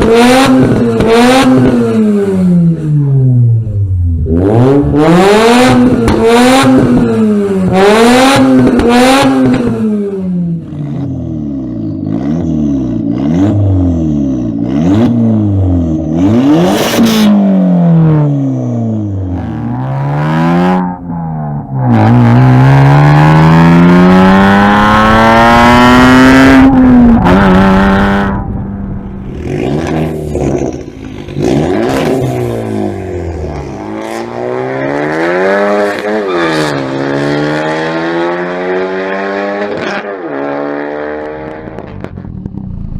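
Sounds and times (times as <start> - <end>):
car engine revving hard: 0.0 - 42.3.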